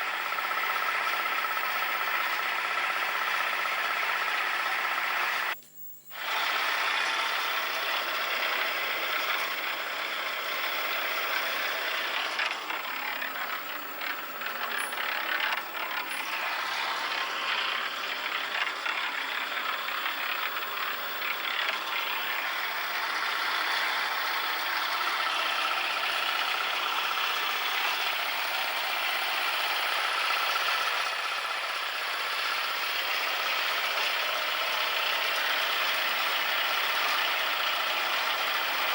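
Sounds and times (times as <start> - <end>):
cement mixer rattling: 0.0 - 5.6, 6.2 - 38.9.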